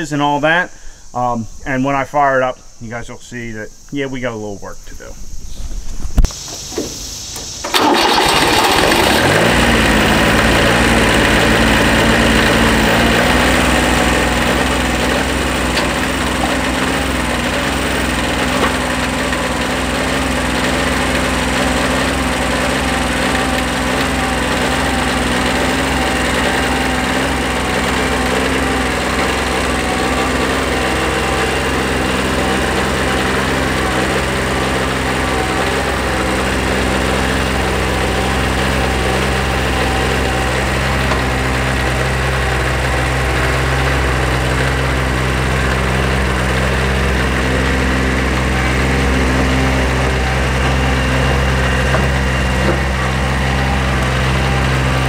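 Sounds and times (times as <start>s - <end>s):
diesel tractor engine running: 6.2s - 55.0s.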